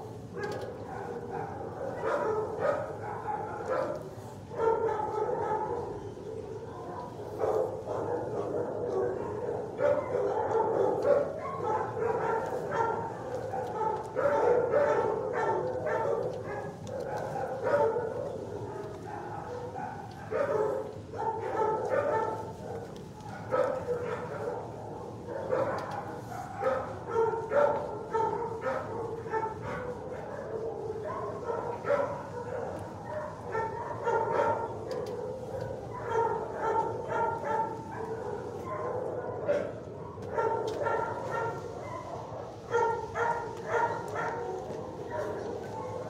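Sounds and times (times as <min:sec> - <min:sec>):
many dogs barking: 0:00.0 - 0:46.0.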